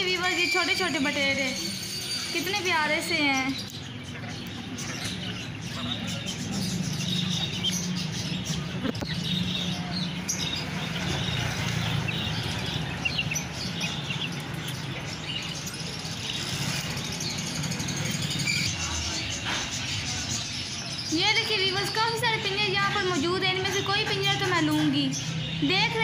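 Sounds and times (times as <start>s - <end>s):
market bustle rumble: 0.0s - 26.0s
small birds chirping: 0.0s - 26.0s.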